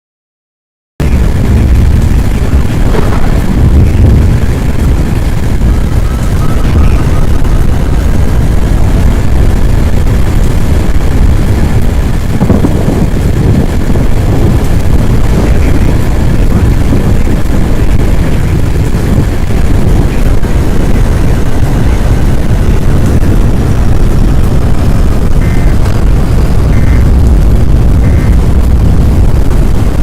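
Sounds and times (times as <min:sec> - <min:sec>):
strong wind buffeting microphone: 0:01.0 - 0:30.0.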